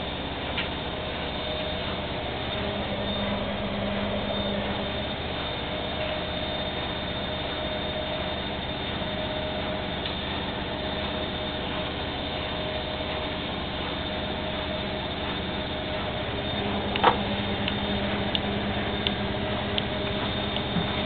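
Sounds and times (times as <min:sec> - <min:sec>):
high whine: 0:00.0 - 0:21.0
washing machine spinning: 0:00.0 - 0:21.0.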